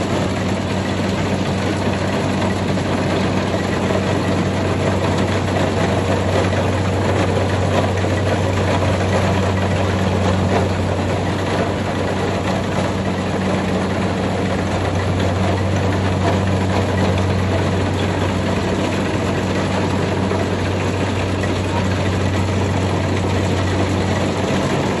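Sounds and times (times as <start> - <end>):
combine harvester running: 0.0 - 25.0.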